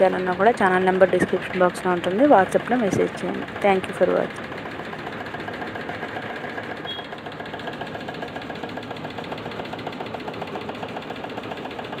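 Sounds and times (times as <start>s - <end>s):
embroidery machine needle stitching: 0.0s - 12.0s
motor hum: 0.0s - 12.0s.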